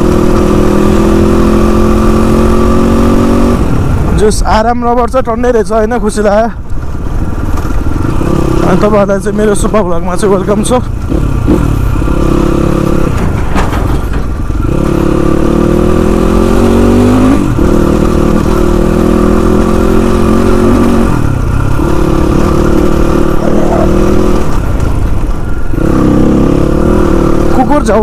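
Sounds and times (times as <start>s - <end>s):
motorcycle engine revving: 0.0s - 4.4s, 6.8s - 28.0s.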